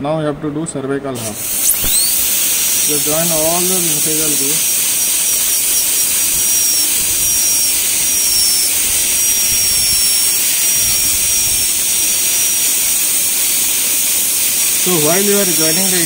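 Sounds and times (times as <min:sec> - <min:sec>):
dental drill whining: 0:01.2 - 0:16.0.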